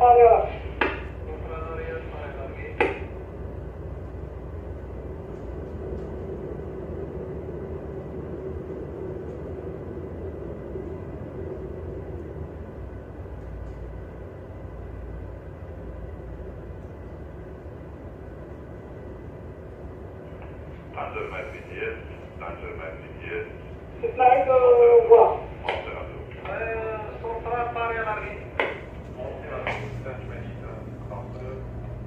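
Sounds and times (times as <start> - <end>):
diesel engines rumbling: 0.0 - 32.0.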